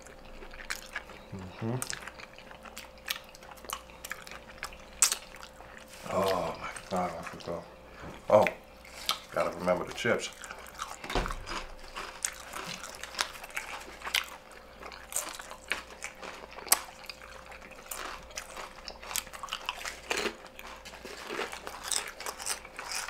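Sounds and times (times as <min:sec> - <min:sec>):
chips crunching: 0:00.0 - 0:07.6, 0:08.4 - 0:23.0
wet chewing: 0:00.0 - 0:23.0.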